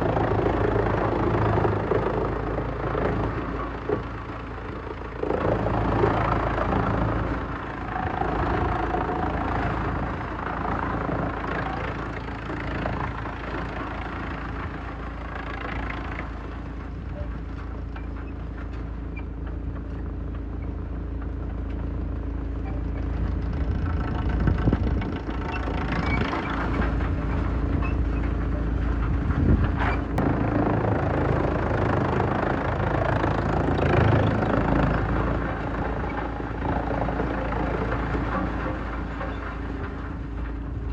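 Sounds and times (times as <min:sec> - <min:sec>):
wood shredder engine drone: 0:00.0 - 0:40.9.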